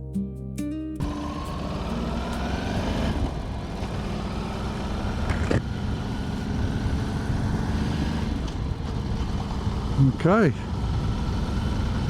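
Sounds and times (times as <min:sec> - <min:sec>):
vehicle engine accelerating: 0:01.0 - 0:12.0.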